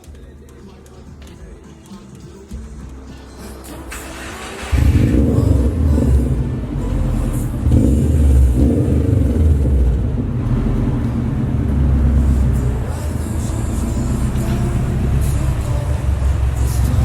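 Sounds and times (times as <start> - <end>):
car engine rumbling: 2.8 - 17.0.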